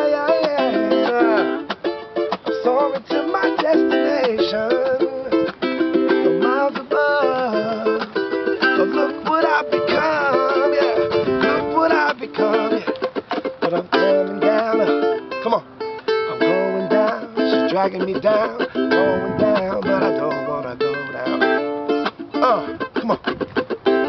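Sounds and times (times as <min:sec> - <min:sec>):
man singing: 0:00.0 - 0:23.4
ukulele strumming: 0:00.0 - 0:24.0.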